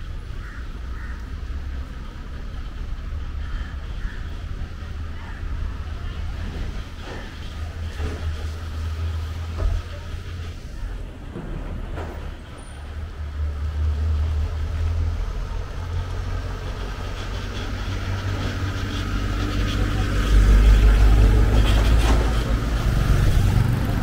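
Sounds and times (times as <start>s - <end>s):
vehicle engines rumbling: 0.0s - 24.0s.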